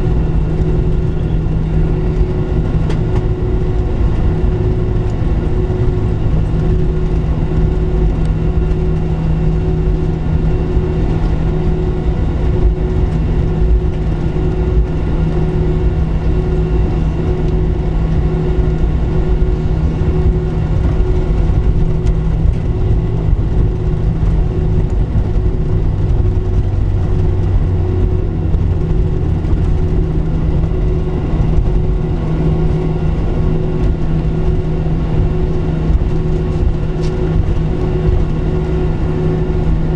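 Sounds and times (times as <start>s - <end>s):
jet engines drone in cabin: 0.0s - 39.9s.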